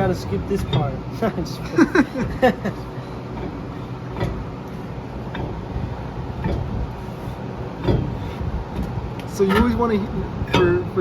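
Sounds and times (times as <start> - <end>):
brake shoes ticking on rotor: 0.0 - 11.0
steady low hum: 0.0 - 11.0.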